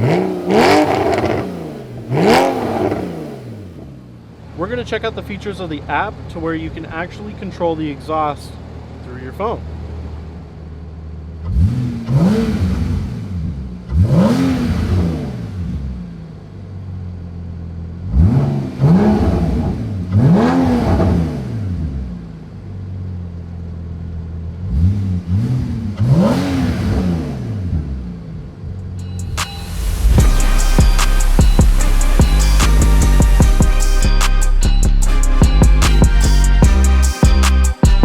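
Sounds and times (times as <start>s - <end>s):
car engine idling: 0.0s - 14.0s, 15.4s - 20.3s, 21.6s - 26.1s, 27.5s - 38.0s
car engine revving: 0.0s - 38.0s.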